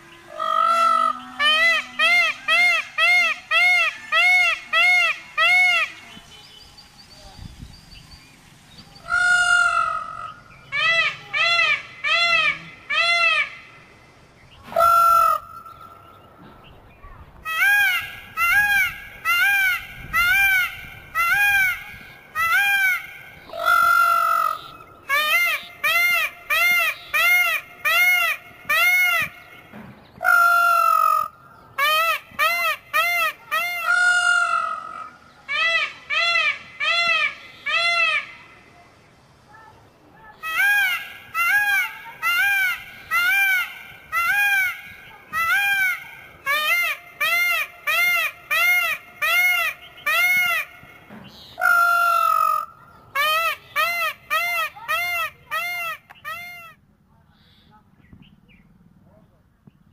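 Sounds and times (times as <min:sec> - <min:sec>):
peafowl calling: 0:00.0 - 0:06.3, 0:09.0 - 0:13.8, 0:14.6 - 0:16.3, 0:17.4 - 0:38.6, 0:40.3 - 0:56.8.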